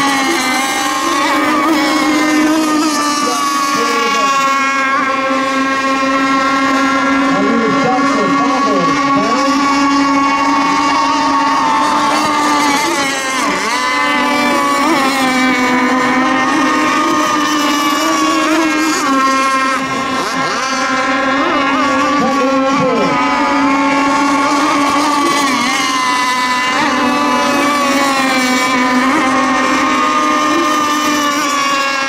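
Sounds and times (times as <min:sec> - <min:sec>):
small boat engines whining: 0:00.0 - 0:32.0.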